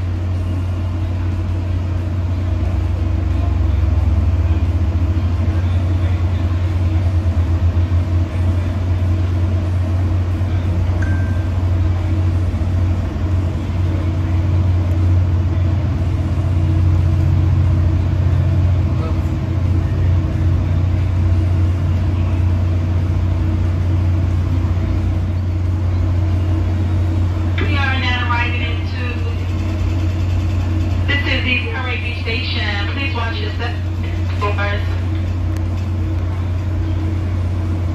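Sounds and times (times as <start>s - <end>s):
train coach drone and hum: 0.0s - 37.9s.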